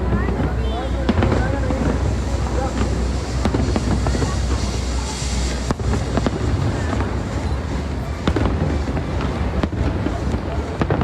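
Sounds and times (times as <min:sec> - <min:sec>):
low rumble: 0:00.0 - 0:10.8
crowd voices: 0:00.0 - 0:11.0
firework bangs: 0:00.0 - 0:11.0.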